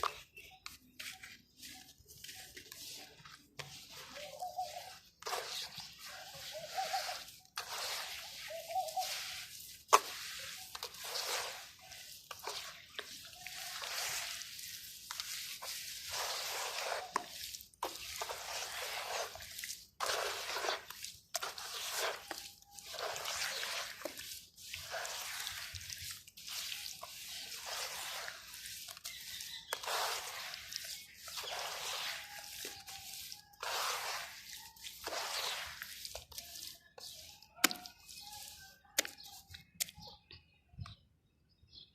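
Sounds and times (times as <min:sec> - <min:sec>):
dirt crumbling and splashing in water: 0:05.2 - 0:40.0.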